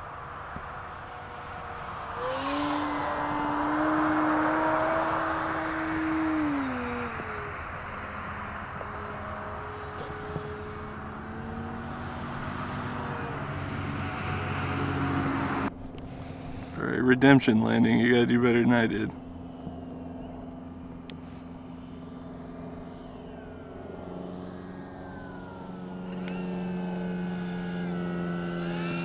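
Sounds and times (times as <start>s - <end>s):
model airplane motor whine: 0.0s - 29.0s.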